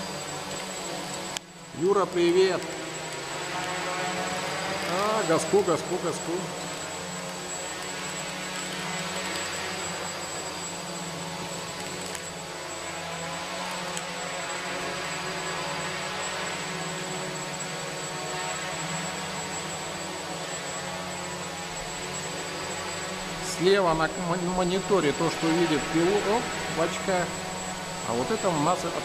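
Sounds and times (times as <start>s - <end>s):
quadcopter propellers buzzing: 0.0s - 29.0s.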